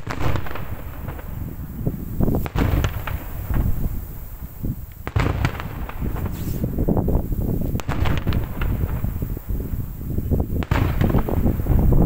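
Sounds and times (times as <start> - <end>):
firecracker bangs and crackling: 0.0 - 12.0
sharp loud firework reports: 0.0 - 12.0.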